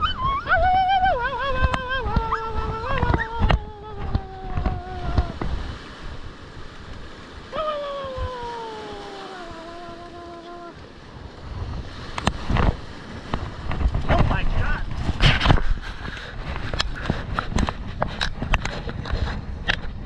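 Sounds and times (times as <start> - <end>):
ocean surf washing on beach: 0.0 - 20.0
wind buffeting microphone: 0.0 - 20.0.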